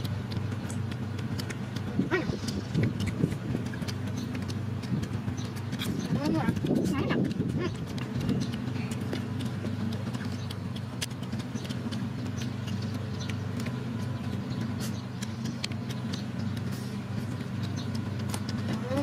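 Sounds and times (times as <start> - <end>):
crunchy chewing: 0.0 - 19.0
low engine-like drone: 0.0 - 19.0.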